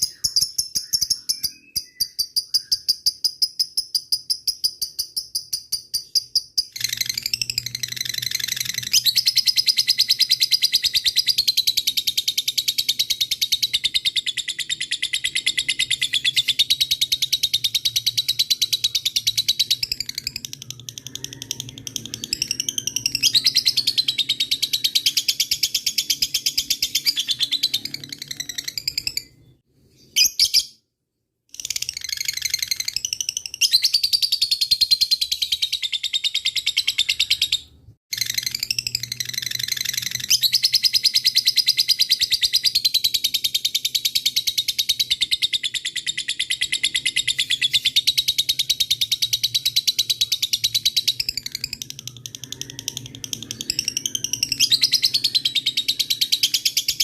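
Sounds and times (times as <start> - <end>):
lovebird chattering trill: 0.0 - 29.5, 31.6 - 57.0.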